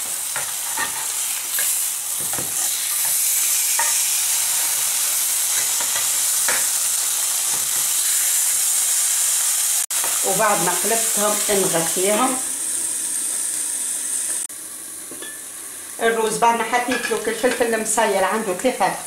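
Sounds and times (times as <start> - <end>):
fish sizzling in a frying pan: 0.0 - 18.9.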